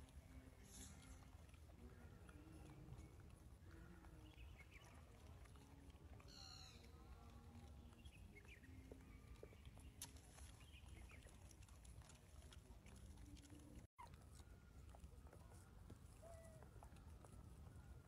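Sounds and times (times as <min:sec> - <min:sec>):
macaque chewing fruit: 0:00.0 - 0:18.0.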